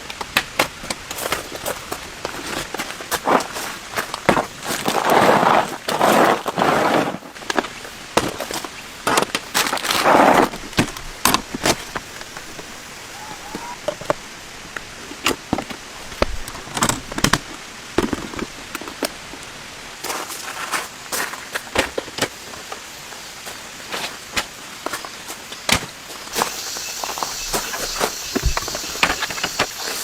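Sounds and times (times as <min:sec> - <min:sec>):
steady rain: 0:00.0 - 0:30.0
rustling noise: 0:00.2 - 0:14.2, 0:20.0 - 0:30.0.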